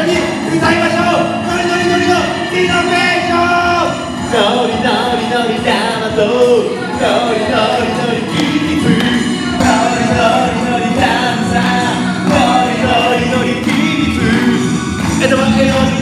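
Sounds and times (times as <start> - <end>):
backing music track: 0.0 - 16.0
man singing into microphone: 0.0 - 16.0.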